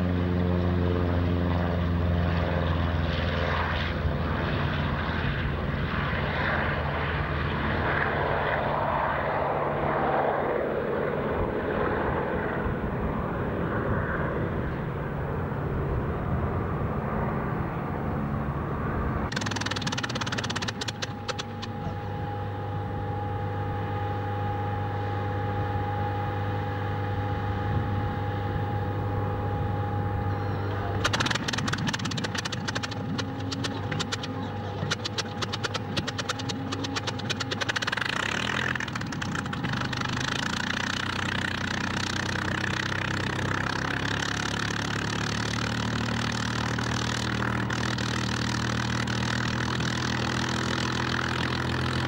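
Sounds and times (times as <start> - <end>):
aircraft engine idling: 0.0 - 52.0
radial aircraft engine at full power: 0.0 - 52.0.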